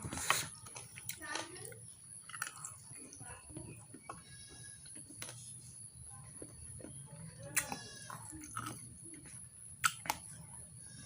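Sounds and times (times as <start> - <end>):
eating sounds: 0.0 - 11.0.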